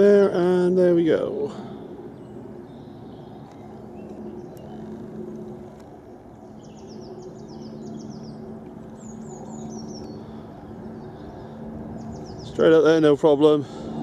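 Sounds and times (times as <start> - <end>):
low engine drone: 0.0 - 14.0
bird chirping: 1.6 - 13.0.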